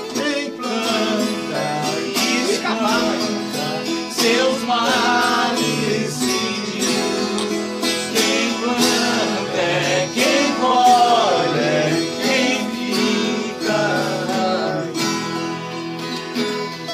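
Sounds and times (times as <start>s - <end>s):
man singing: 0.0s - 15.2s
viola and acoustic guitar playing: 0.0s - 16.9s.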